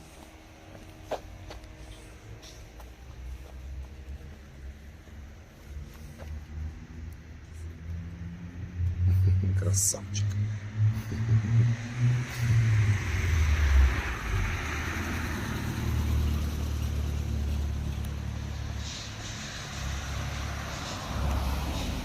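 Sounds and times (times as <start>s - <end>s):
steady low rumble: 0.0s - 22.0s
car driving past: 3.2s - 22.0s.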